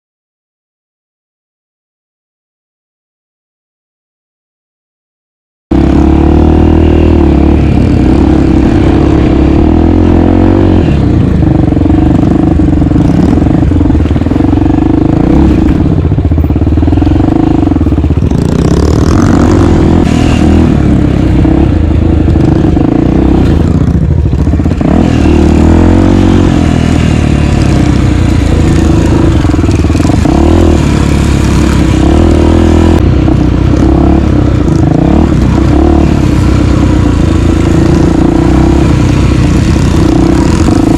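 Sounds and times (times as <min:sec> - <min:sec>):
motorcycle engine revving: 0:05.7 - 0:40.9.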